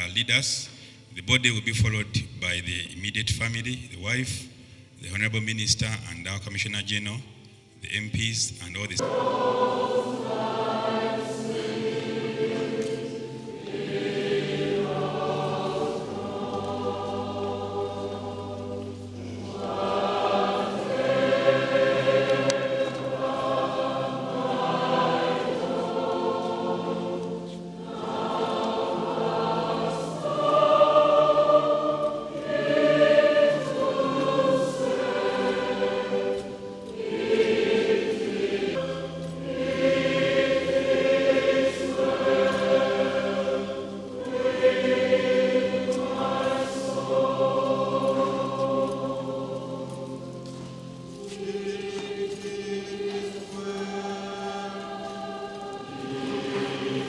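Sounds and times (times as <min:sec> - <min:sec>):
choir singing a hymn: 0:08.8 - 0:57.0.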